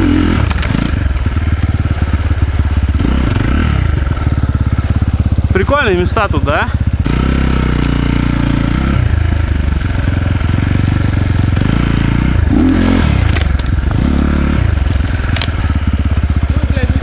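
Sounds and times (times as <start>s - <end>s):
motorcycle engine under throttle: 0.0s - 17.0s.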